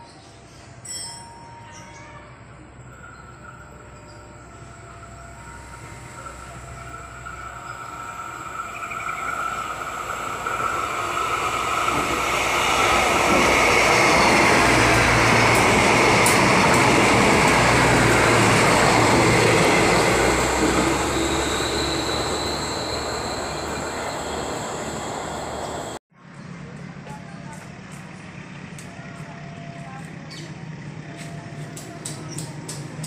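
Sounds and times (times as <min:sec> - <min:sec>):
train wheels rushing on rails: 0:04.8 - 0:26.0, 0:27.4 - 0:33.0.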